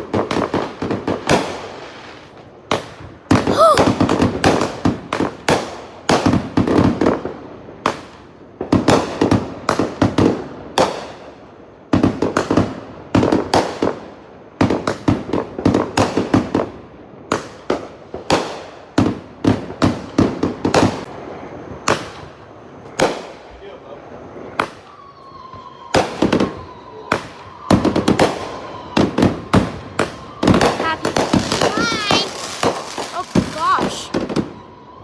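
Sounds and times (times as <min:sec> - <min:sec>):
fireworks exploding: 0:00.0 - 0:23.6, 0:24.3 - 0:35.0.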